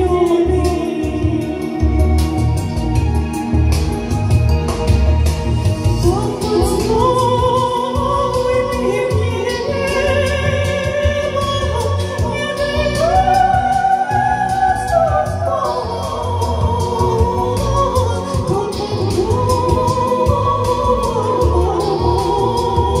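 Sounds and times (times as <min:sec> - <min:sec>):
woman singing with vibrato: 0:00.0 - 0:04.2, 0:05.8 - 0:23.0
backing track with low beat: 0:00.0 - 0:23.0.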